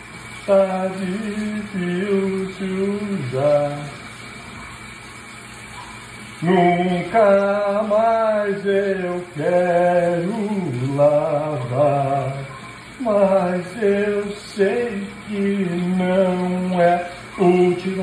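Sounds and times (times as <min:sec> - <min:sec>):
water running from tap: 0:00.0 - 0:18.0
man singing long notes: 0:00.5 - 0:04.1, 0:06.4 - 0:18.0.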